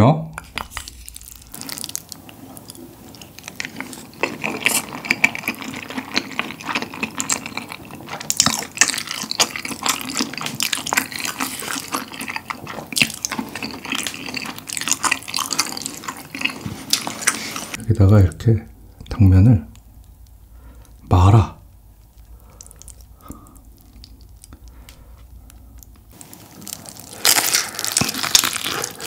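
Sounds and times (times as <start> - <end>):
wet chewing and smacking: 0.4 - 21.1, 21.7 - 29.0.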